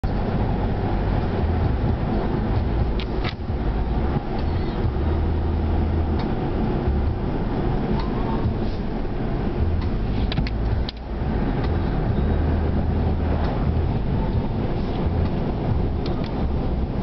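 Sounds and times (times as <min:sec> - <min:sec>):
road noise: 0:00.0 - 0:17.0
wind buffeting through car window: 0:00.0 - 0:17.0.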